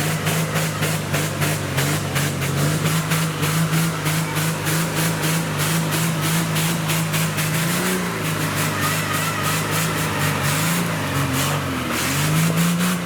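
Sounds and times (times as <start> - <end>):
truck engine revving under load: 0.0 - 13.0.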